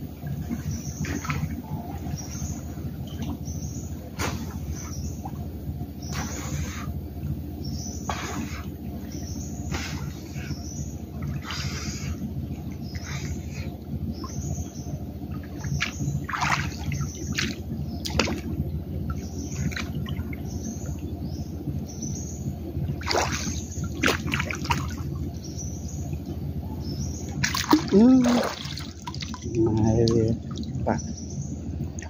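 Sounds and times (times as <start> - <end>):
water sloshing and splashing: 0.0 - 7.4, 8.1 - 21.8, 22.4 - 26.6, 27.2 - 32.0
birds chirping: 0.0 - 32.0.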